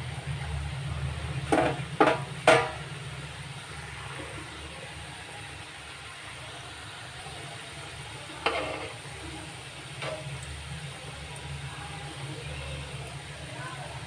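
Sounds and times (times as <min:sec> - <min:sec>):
deep-frying sizzle: 0:00.0 - 0:14.0.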